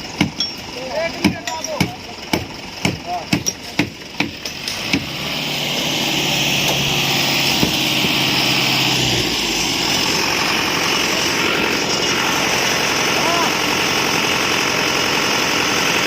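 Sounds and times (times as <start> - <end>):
construction machinery engine running: 0.0 - 16.0.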